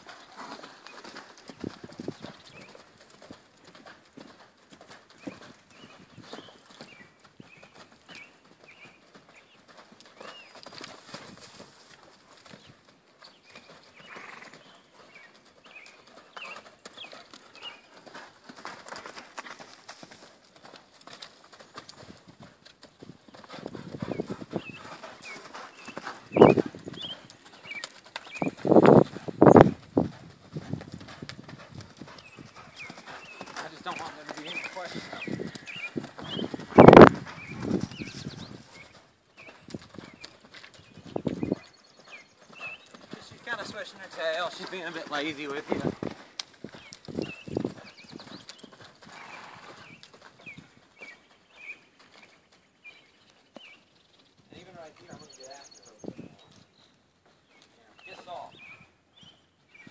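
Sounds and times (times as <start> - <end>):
horse hoofbeats on dirt: 0.0 - 59.9.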